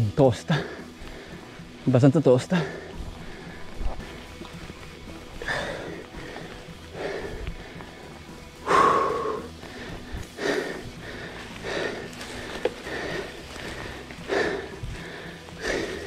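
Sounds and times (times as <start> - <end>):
person breathing hard: 0.5 - 1.8, 2.6 - 16.0.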